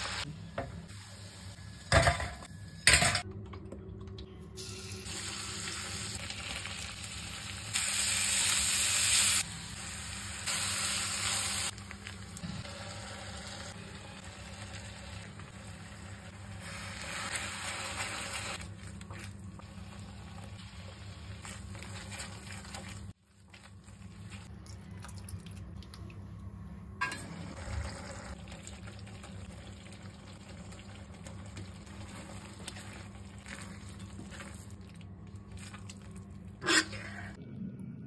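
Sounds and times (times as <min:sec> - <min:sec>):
gravy bubbling and sizzling: 0:04.7 - 0:26.4, 0:27.0 - 0:38.0.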